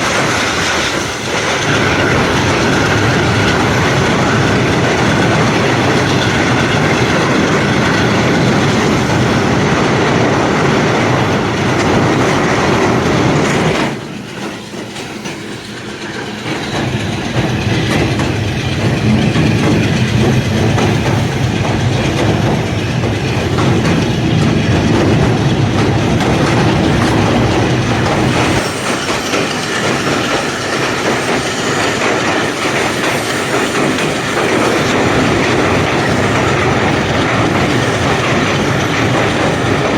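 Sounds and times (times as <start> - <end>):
train rumbling on rails: 0.0 - 39.9
wheels clickety-clack: 0.0 - 39.9.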